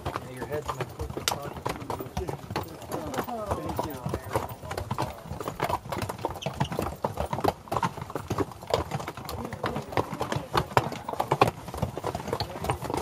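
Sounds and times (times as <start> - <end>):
mule hooves clip-clopping on rocky trail: 0.0 - 13.0.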